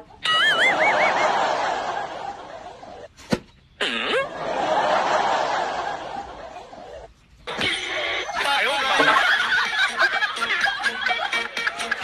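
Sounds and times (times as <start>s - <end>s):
canned crowd laughter: 0.0s - 3.1s, 4.2s - 12.0s.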